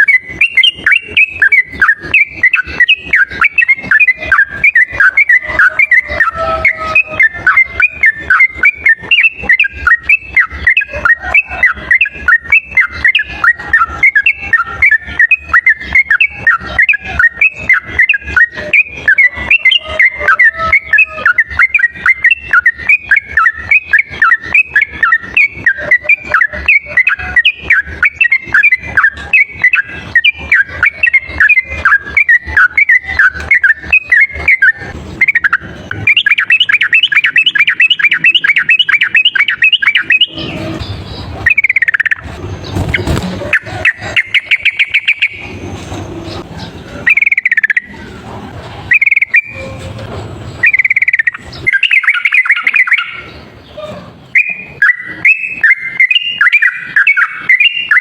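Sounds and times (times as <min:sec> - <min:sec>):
bulbul rapid whistled chatter: 0:00.0 - 0:58.0.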